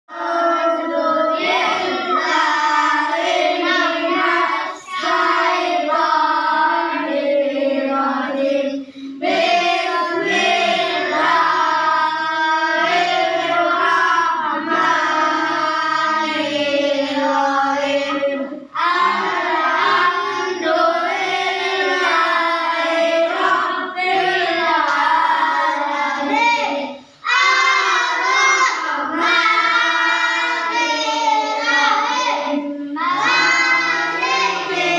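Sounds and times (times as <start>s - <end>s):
children chanting melodically: 0.1s - 34.9s.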